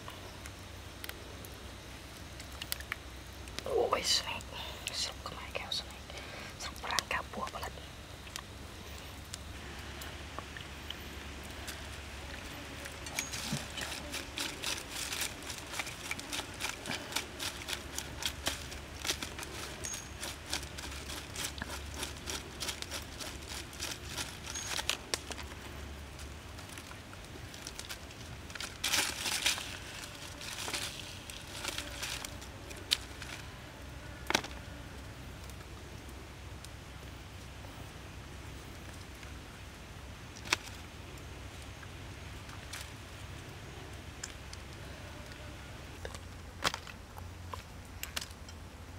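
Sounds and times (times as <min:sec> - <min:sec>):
leaves crinkling: 0:01.8 - 0:37.6, 0:38.6 - 0:48.5.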